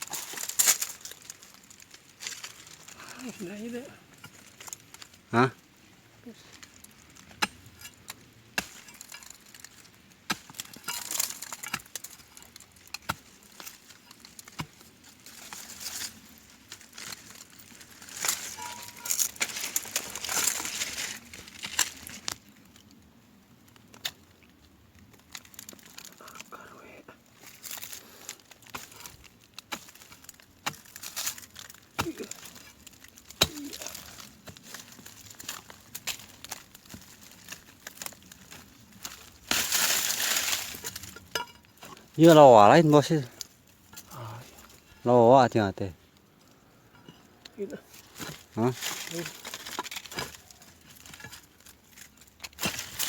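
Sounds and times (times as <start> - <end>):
crackling and rustling: 0.0 - 5.3, 6.2 - 53.0.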